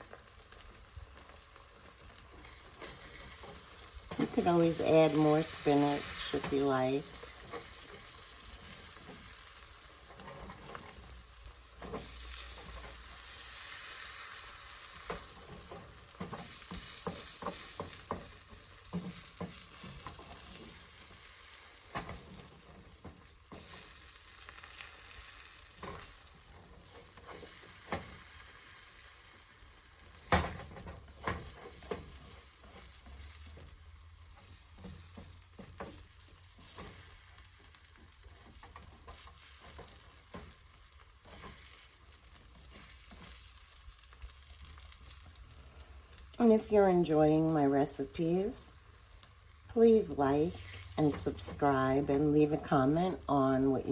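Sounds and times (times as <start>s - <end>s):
greens sizzling in butter: 0.0s - 53.9s.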